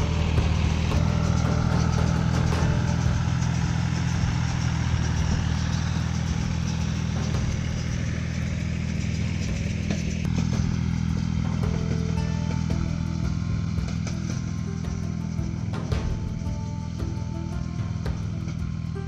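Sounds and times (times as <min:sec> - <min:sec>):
baler mechanical clatter: 0:00.0 - 0:19.0
tractor diesel engine: 0:00.0 - 0:19.0.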